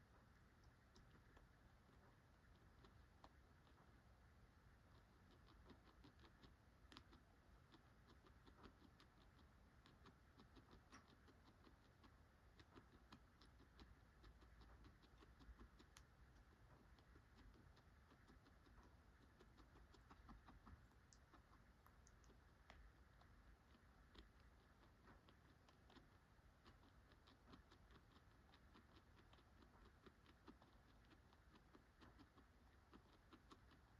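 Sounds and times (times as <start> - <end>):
guinea pig chewing pellets: 0.0 - 33.9.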